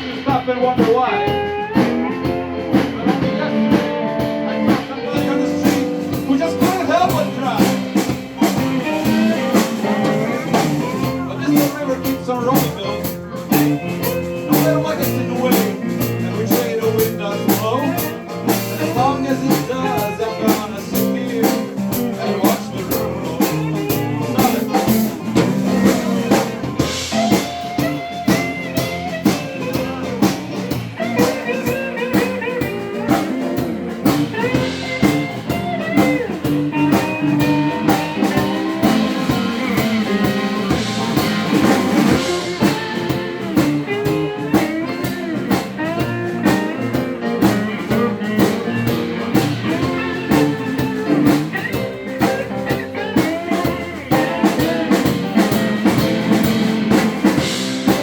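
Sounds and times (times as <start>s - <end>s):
blues-rock band playing: 0.0s - 58.0s
drum-kit beat: 0.0s - 58.0s
lead guitar bending notes: 0.0s - 58.0s.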